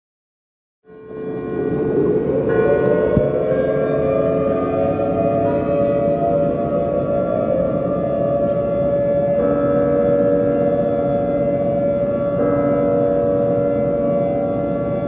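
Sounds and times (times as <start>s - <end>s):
siren-like warning tone: 0.8s - 15.0s.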